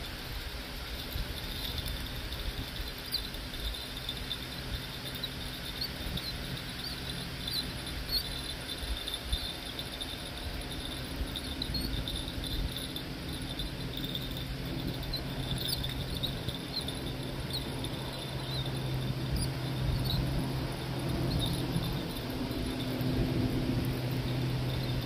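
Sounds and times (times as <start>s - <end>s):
crickets chirping: 0.0s - 25.0s
low steady rumble: 0.0s - 25.0s.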